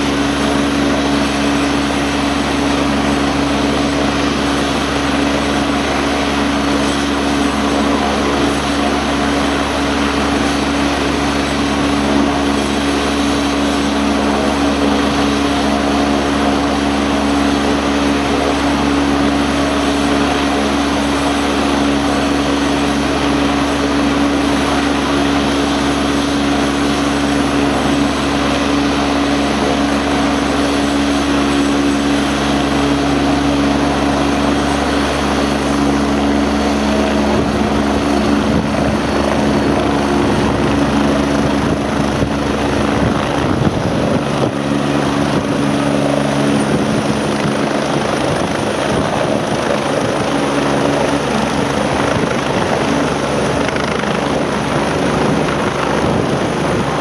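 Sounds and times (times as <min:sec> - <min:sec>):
helicopter turbine whine and rotor hum: 0:00.0 - 0:57.0.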